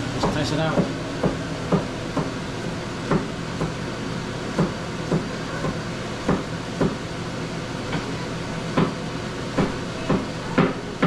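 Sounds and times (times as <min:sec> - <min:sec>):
exhaust fan rushing air: 0:00.0 - 0:11.0.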